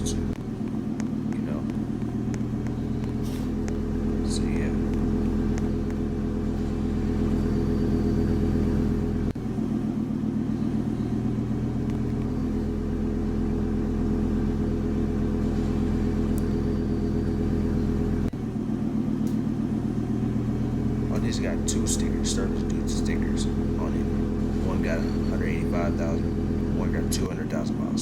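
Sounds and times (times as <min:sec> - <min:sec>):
bus diesel engine idling: 0:00.0 - 0:28.0.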